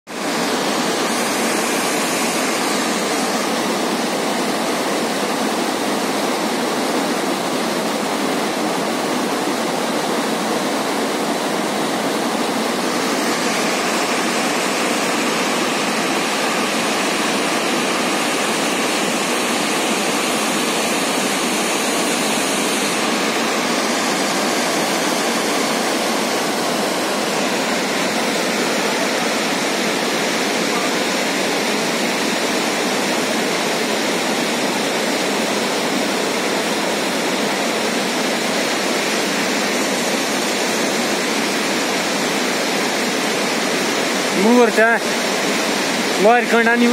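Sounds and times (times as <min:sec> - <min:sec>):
water rushing over boulders: 0:00.1 - 0:46.9.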